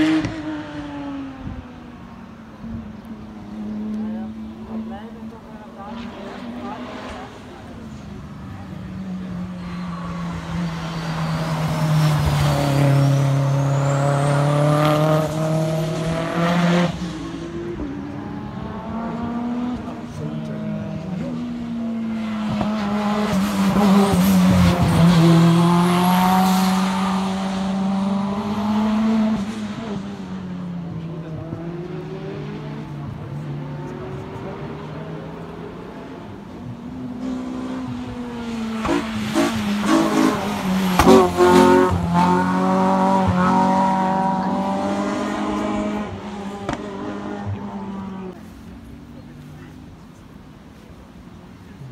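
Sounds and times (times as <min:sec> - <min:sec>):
race car engine revving: 0:02.6 - 0:48.5.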